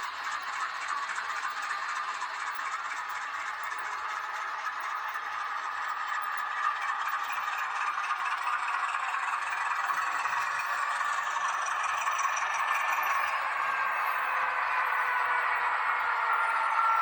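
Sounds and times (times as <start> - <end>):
model train rattling on rails: 0.1 - 17.0.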